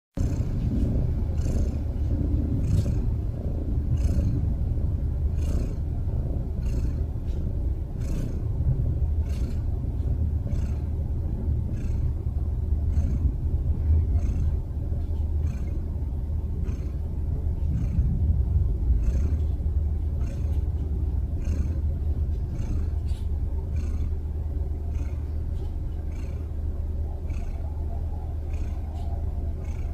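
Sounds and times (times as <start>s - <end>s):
cat snoring: 0.2s - 4.6s, 5.2s - 14.7s, 15.4s - 29.9s.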